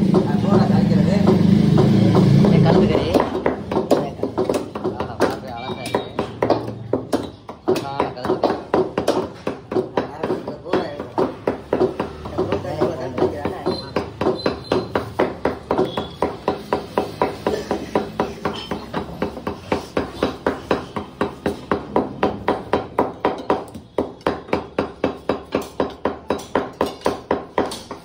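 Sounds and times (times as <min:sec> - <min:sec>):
cleaver chopping on wood: 0:00.0 - 0:28.0.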